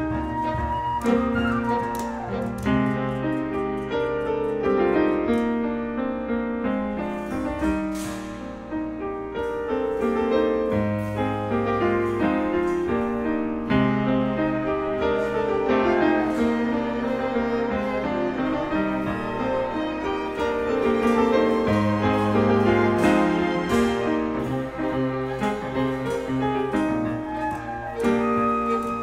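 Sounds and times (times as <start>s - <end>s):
clarinet: 0.0s - 5.5s, 9.5s - 29.0s
percussion: 0.0s - 5.8s, 6.6s - 29.0s
grand piano: 0.0s - 29.0s
strings: 0.0s - 29.0s.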